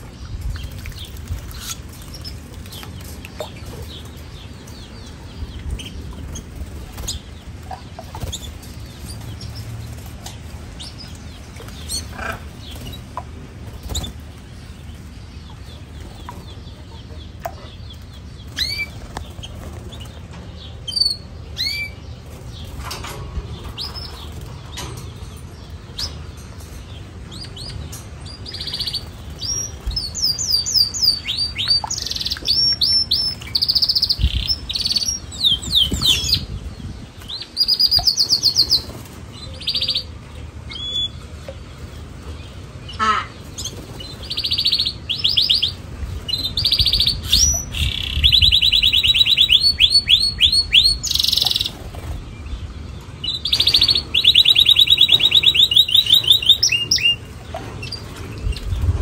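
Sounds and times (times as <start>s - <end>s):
canaries singing rolling trills: 0.0s - 59.0s.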